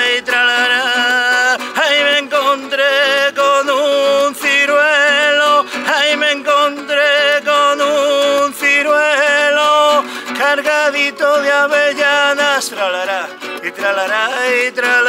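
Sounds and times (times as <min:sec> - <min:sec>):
man singing: 0:00.0 - 0:15.0
strummed nylon-string guitar: 0:00.0 - 0:15.0.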